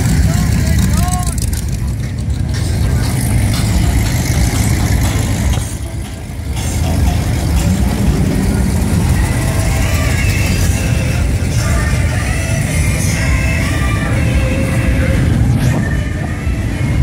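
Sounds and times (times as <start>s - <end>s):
car engines cruising past: 0.0s - 17.0s.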